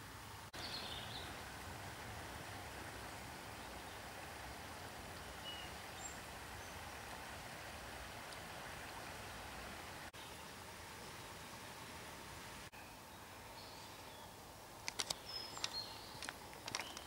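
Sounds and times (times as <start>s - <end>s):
steady forest hiss: 0.0s - 17.0s.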